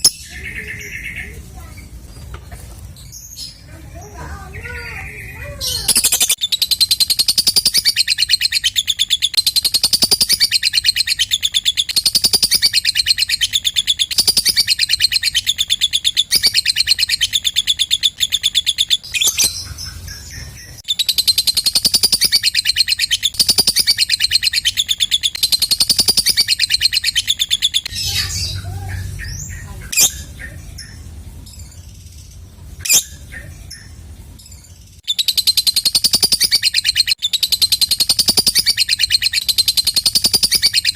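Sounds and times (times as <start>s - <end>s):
lovebird chattering trill: 0.0s - 2.0s, 3.2s - 40.9s
soft bird chirps: 0.0s - 40.9s.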